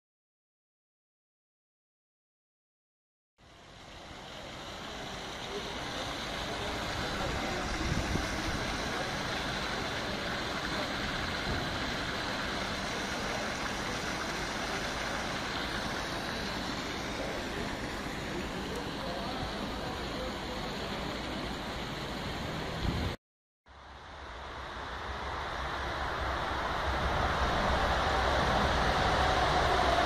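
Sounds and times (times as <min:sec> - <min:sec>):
engine-driven pump droning: 0:03.4 - 0:30.0.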